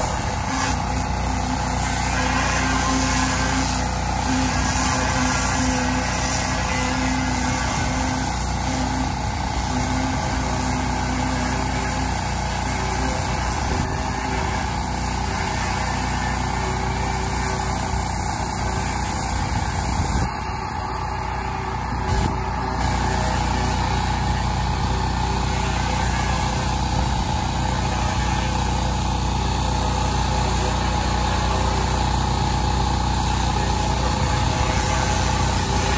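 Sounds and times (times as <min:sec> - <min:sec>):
pressure washer spraying siding: 0:00.0 - 0:35.9.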